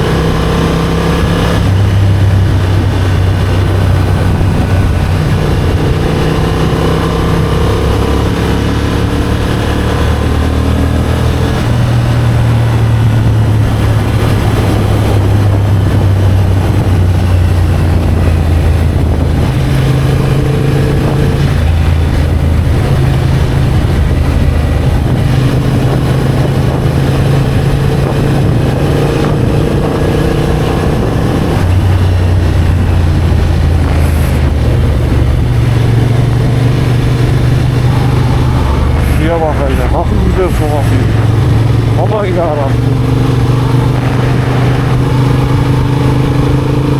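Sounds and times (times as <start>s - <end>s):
motorcycle engine running: 0.0s - 46.9s
rushing wind noise: 0.0s - 46.9s.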